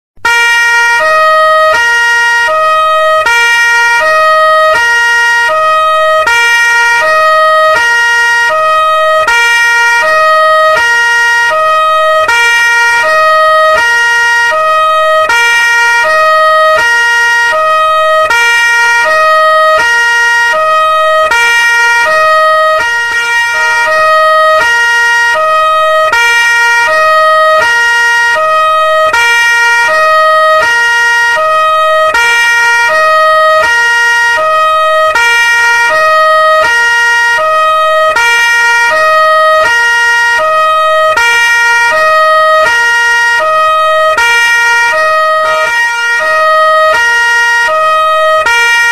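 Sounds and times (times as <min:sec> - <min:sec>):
two-tone police siren: 0:00.2 - 0:48.9.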